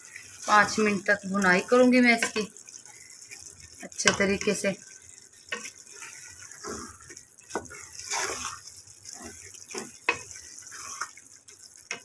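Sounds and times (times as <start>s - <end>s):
spatula scraping thick lentils: 0.0s - 12.0s.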